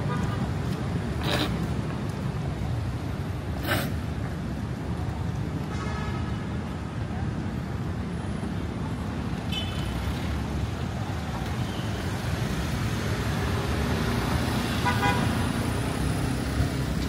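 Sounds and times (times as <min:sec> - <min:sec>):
rumble of passing traffic: 0:00.0 - 0:17.0.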